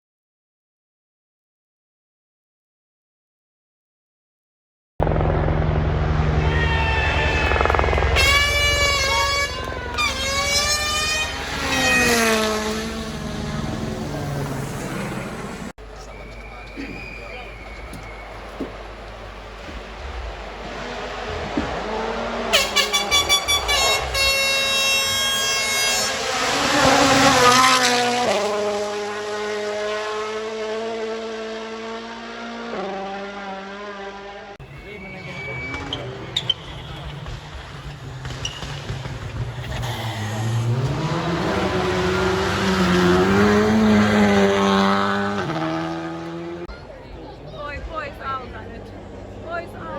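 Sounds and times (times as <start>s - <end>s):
rally car engine revving: 5.0s - 49.9s.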